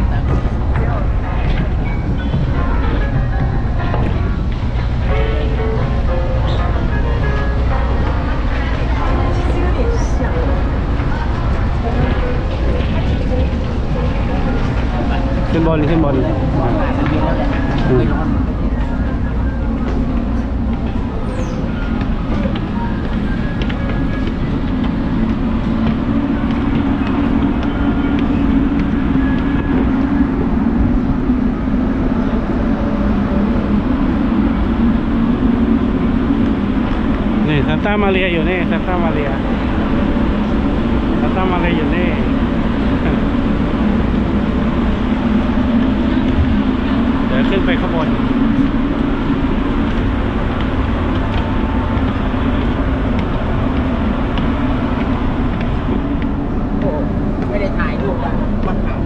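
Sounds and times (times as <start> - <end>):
ship machinery drone: 0.0 - 59.0.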